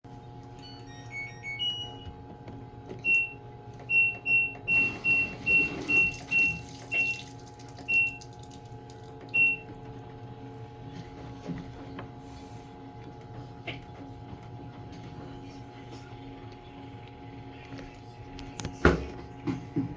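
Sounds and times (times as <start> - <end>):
low machine hum: 0.1 - 19.9.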